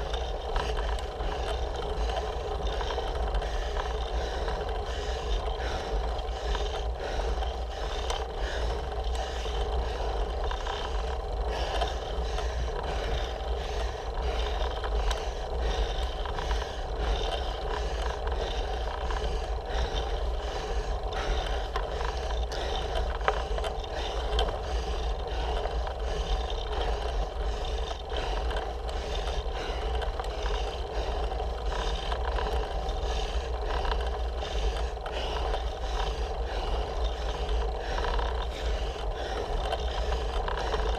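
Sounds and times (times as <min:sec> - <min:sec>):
road vibration rumble: 0:00.0 - 0:40.9.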